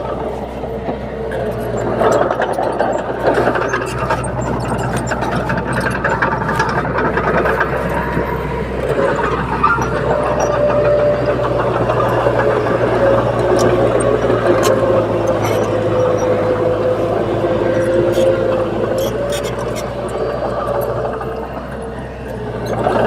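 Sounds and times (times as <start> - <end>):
bulldozer diesel engine running: 0.0 - 23.0
sharp clicks and clanks: 0.9 - 23.0.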